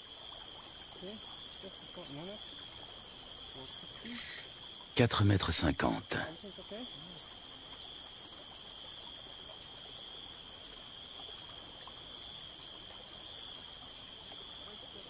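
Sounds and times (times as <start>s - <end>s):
faint insect chirps: 0.0s - 15.0s.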